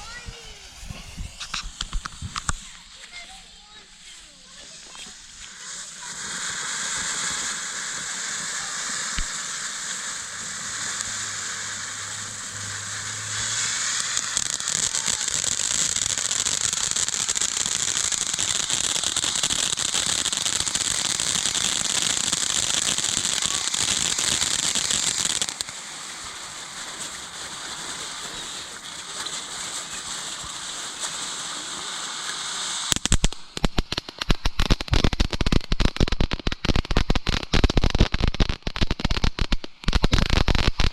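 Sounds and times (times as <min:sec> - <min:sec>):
firework crackling pops: 0:00.0 - 0:40.9
firework fountain hissing: 0:00.0 - 0:40.9.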